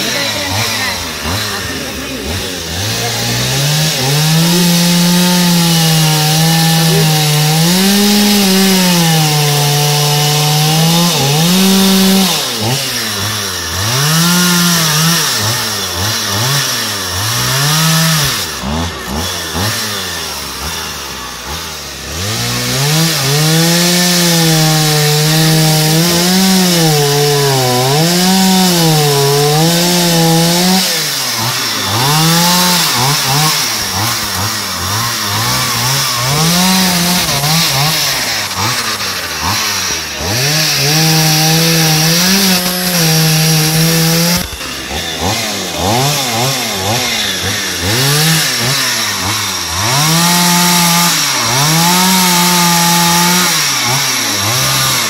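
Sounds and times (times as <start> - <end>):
chainsaw cutting wood revving: 0.0 - 55.0.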